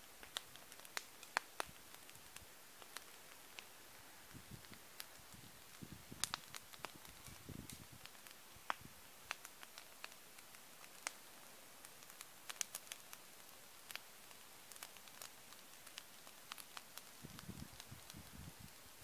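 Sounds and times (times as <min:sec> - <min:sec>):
bonfire crackling and popping: 0:00.0 - 0:19.0
soft hiss: 0:00.0 - 0:19.0.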